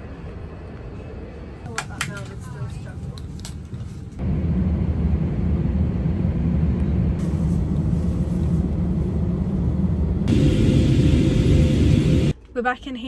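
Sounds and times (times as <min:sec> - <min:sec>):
vehicle rumble: 0:00.0 - 0:12.4.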